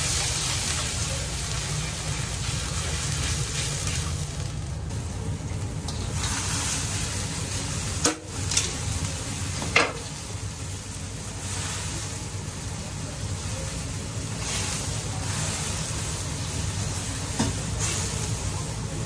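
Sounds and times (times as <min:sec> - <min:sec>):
broth simmering and sizzling: 0:00.0 - 0:19.0
gas burner rushing: 0:00.0 - 0:19.0.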